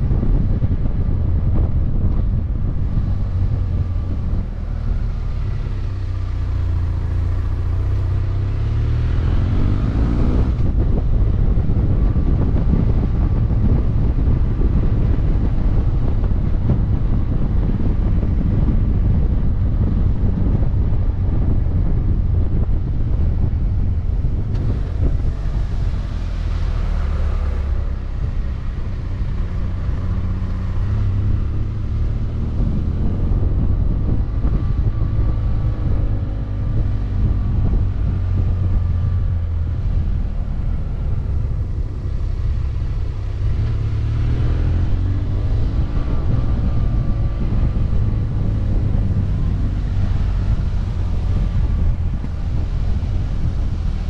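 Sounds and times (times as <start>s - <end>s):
motorcycle engine accelerating: 0.0s - 54.0s
wind and road rumble: 0.0s - 54.0s.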